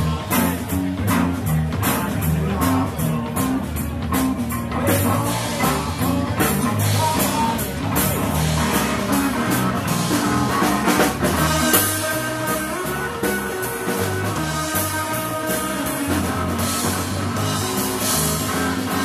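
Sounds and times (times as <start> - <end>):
drum kit beat: 0.0 - 19.0
electric bass line: 0.0 - 19.0
electric guitar: 0.0 - 19.0.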